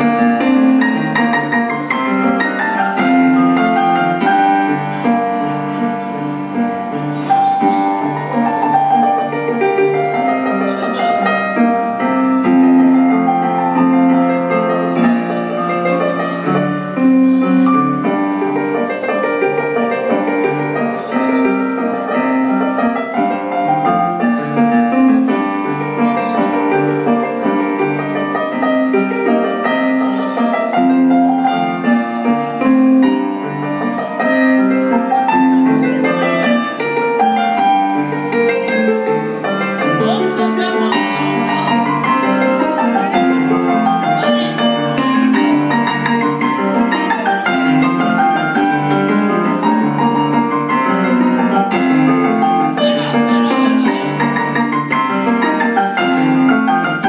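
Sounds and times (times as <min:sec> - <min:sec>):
digital piano playing a tune: 0:00.0 - 0:57.0.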